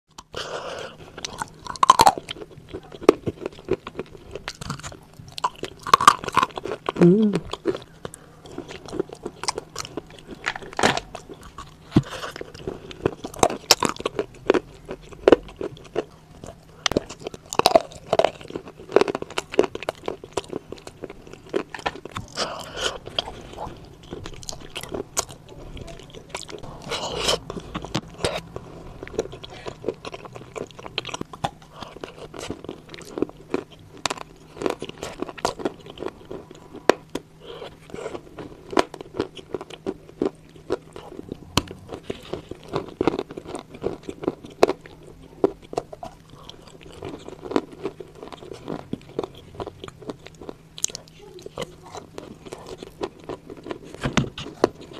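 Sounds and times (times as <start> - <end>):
crunching and chewing clay: 0.1 - 54.9.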